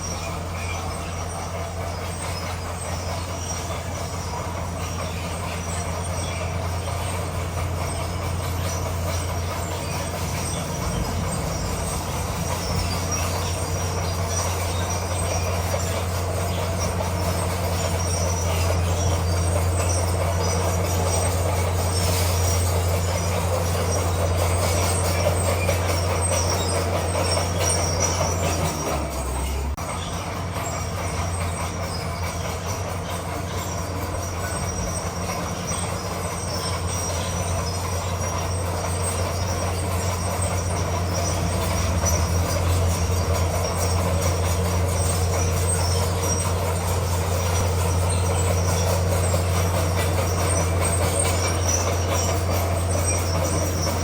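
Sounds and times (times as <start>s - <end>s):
bulldozer diesel engine running: 0.0s - 54.0s
steel tracks squealing and clattering: 0.0s - 54.0s.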